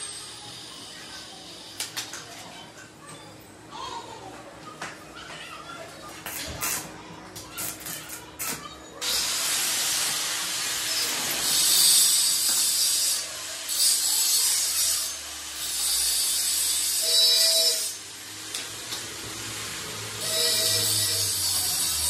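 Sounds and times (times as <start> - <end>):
arc welder crackling and hissing: 0.0 - 2.6, 6.2 - 22.0.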